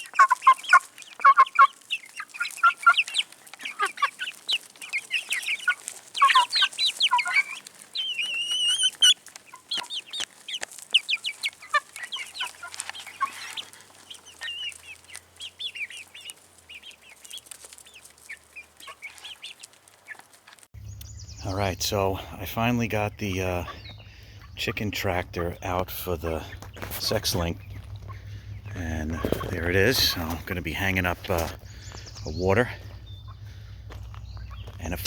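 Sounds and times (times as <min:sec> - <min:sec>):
chickens peeping and clucking: 0:00.0 - 0:35.0.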